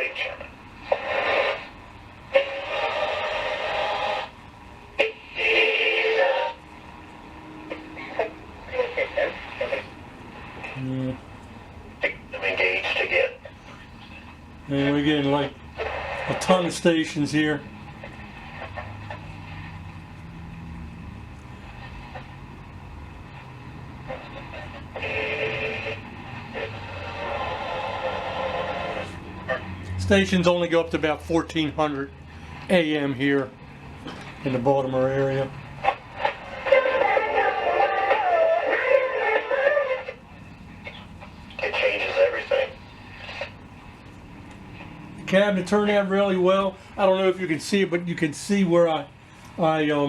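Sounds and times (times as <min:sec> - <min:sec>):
radio tuning across stations: 0:00.0 - 0:50.0.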